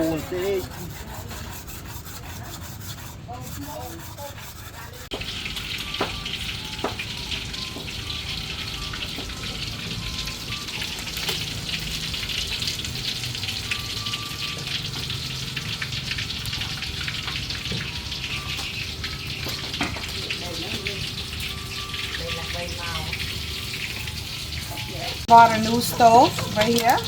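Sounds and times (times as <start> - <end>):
food sizzling in hot oil: 5.1 - 27.0
oil crackling: 5.1 - 27.0.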